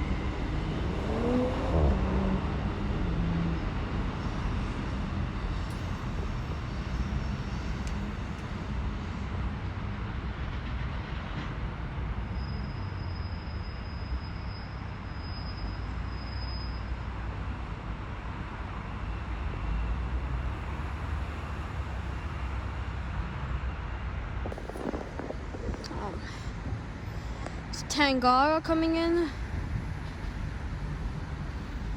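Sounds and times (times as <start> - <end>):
train rumbling: 0.0 - 31.9.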